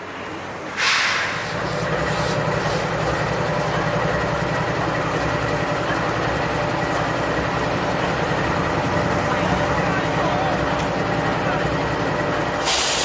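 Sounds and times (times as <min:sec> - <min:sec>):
diesel locomotive idling: 0:00.0 - 0:13.0.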